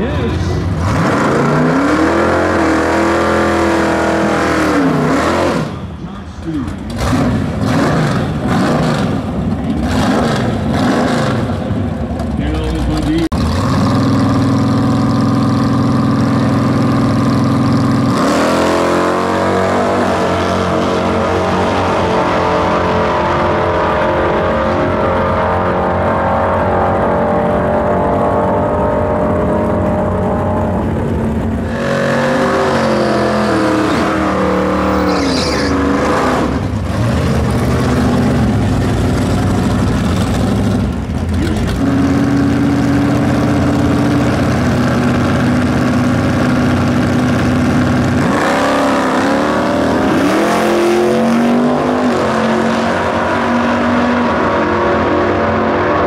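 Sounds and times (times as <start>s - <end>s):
drag racing engines revving: 0.0s - 56.0s.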